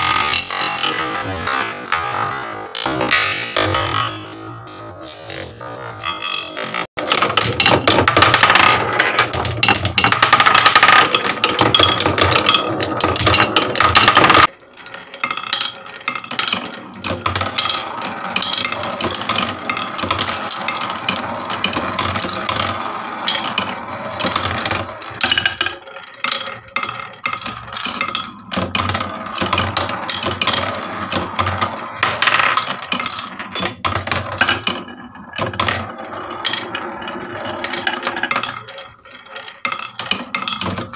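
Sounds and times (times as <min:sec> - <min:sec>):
marbles rattling down wooden run: 0:06.4 - 0:40.9.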